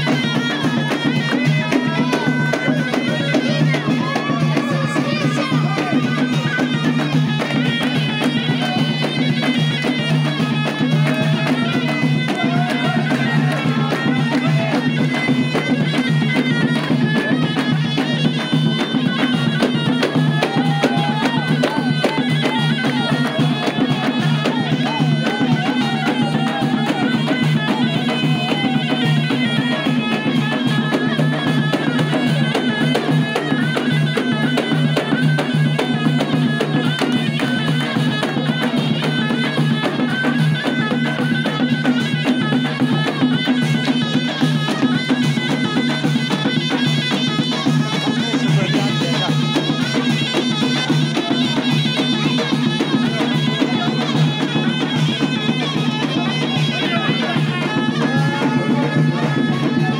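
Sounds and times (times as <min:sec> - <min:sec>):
frame drums beating: 0:00.0 - 0:59.9
wavering wind instrument melody: 0:00.0 - 0:59.9.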